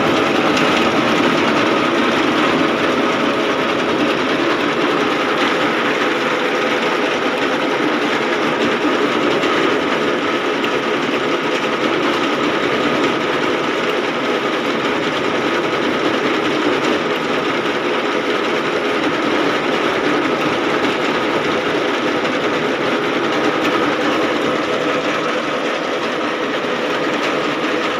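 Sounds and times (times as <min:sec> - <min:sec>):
fast mechanical clatter: 0:00.0 - 0:27.9
tractor engine running: 0:00.0 - 0:27.9.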